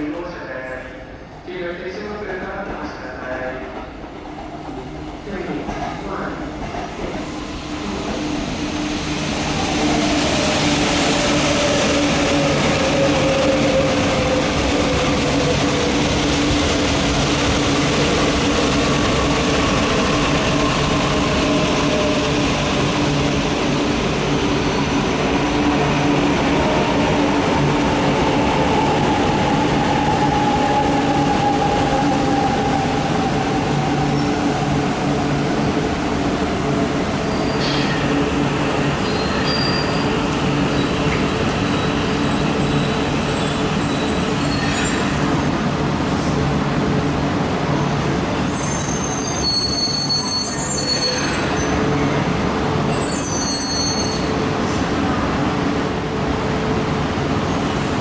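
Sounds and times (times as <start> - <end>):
train rolling rumble: 1.3 - 53.6.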